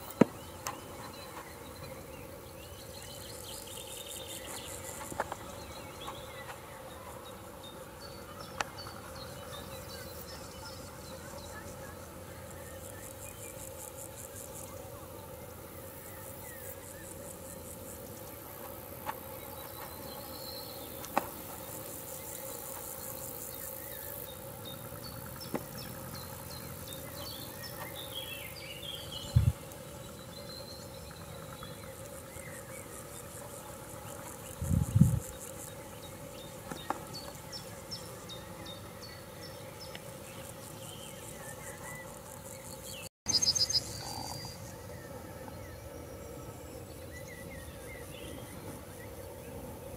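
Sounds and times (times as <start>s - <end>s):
insects stridulating: 0.0s - 49.9s.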